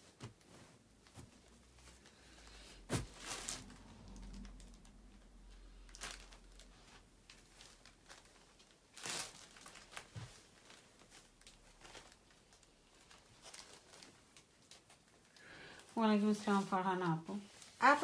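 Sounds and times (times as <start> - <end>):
faint rustles and handling: 0.0 - 18.0.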